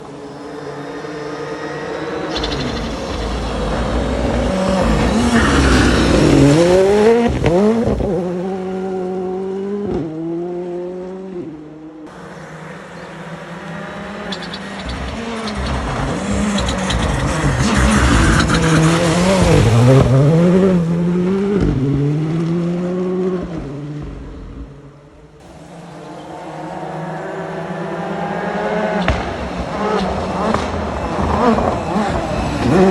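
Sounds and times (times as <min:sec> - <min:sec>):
rally car engine revving: 0:00.0 - 0:32.9.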